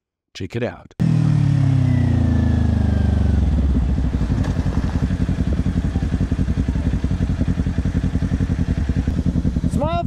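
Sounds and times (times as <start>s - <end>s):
motorcycle engine at low revs: 1.0s - 10.0s.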